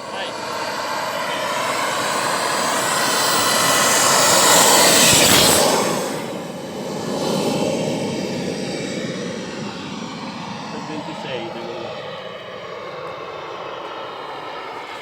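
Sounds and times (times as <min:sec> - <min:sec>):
model jet turbine whine: 0:00.0 - 0:15.0.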